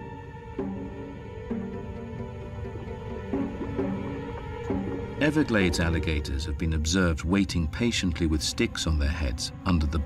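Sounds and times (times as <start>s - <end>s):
sustained music chords: 0.0s - 10.0s.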